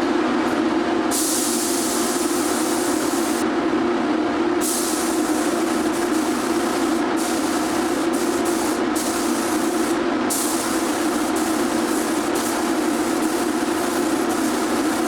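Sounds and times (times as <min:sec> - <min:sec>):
steady low hum: 0:00.0 - 0:15.0
paint spray gun hissing: 0:01.1 - 0:03.4, 0:04.6 - 0:15.0.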